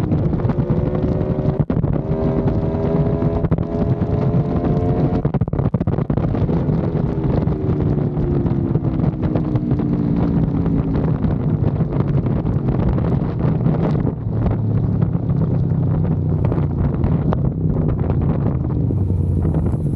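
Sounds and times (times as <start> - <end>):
motorcycle engine at speed: 0.0 - 19.9
wind buffeting microphone: 0.0 - 19.9.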